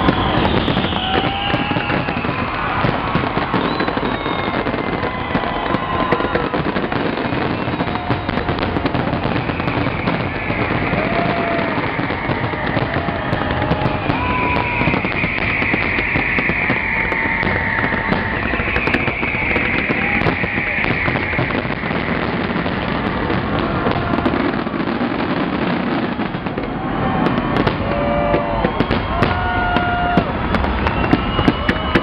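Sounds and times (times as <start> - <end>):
fireworks crackling: 0.0 - 32.0.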